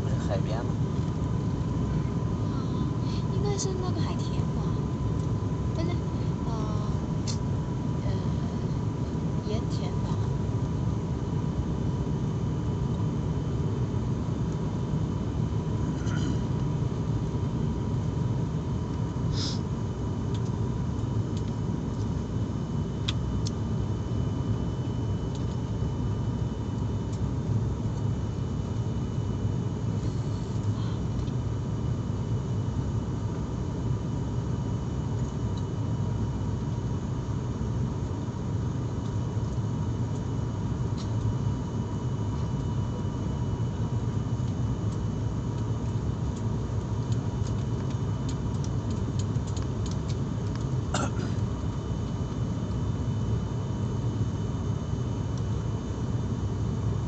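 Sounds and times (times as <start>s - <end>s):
airliner cabin engine drone: 0.0s - 57.0s.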